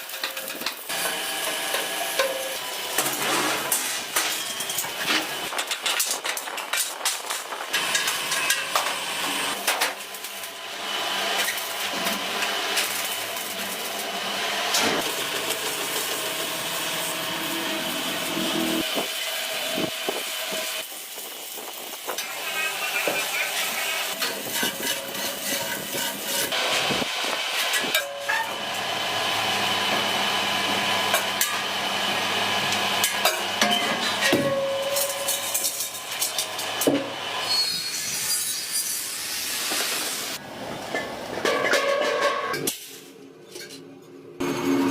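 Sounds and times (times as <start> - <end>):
factory machinery noise: 0.0 - 43.7, 44.4 - 44.9.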